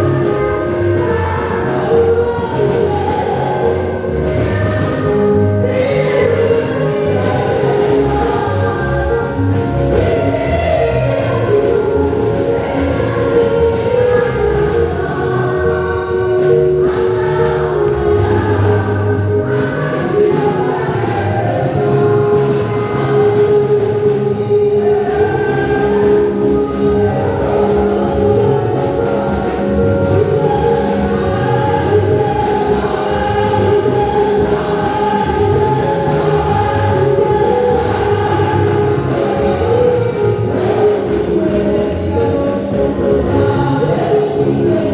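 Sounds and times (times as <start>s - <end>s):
band accompaniment: 0.0s - 44.9s
choir singing gospel: 0.0s - 44.9s.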